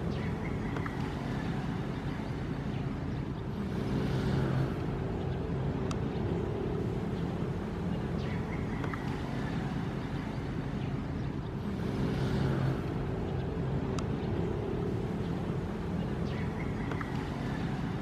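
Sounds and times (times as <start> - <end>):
ocean waves rumbling: 0.0 - 18.0.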